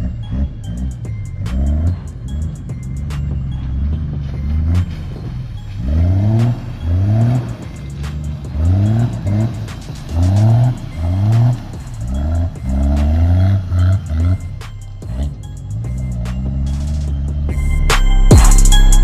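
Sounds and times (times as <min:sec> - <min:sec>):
truck churning through mud: 0:00.0 - 0:17.5
background music: 0:00.0 - 0:19.0
diesel engine revving: 0:00.0 - 0:19.0.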